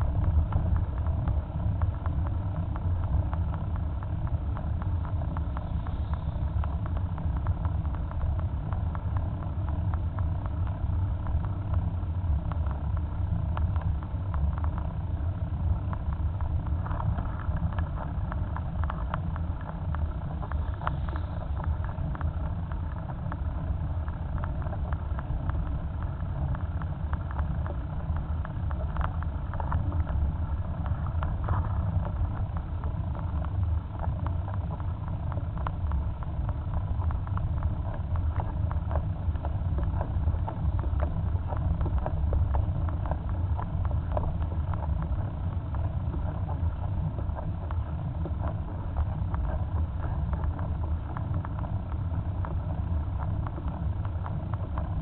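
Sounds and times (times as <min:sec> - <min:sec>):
faint ticks from road: 0:00.0 - 0:55.0
tyre noise on asphalt: 0:00.0 - 0:55.0
wind on microphone: 0:00.0 - 0:55.0.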